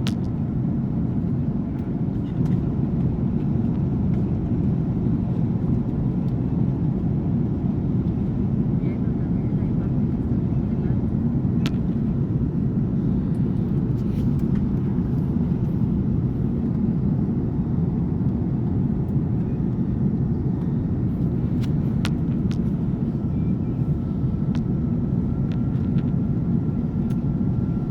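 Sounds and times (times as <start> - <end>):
airliner cabin drone: 0.0 - 27.9.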